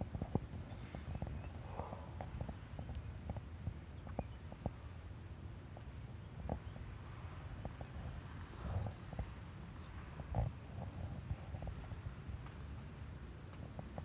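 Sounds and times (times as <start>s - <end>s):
faint clicks and ticks: 0.0s - 6.7s, 7.5s - 12.8s
steady low rumble: 0.0s - 14.0s.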